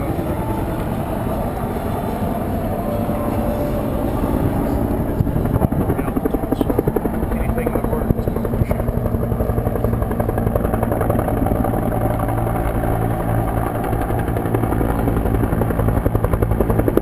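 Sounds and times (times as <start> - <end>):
helicopter turbine and rotor: 0.0 - 17.0.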